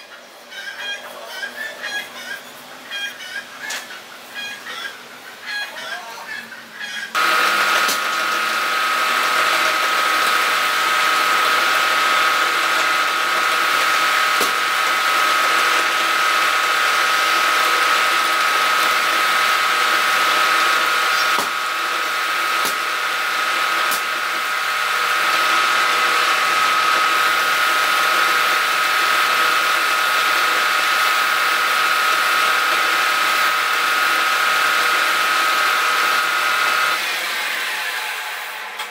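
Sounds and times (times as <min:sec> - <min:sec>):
lathe motor whining: 0:07.1 - 0:38.9.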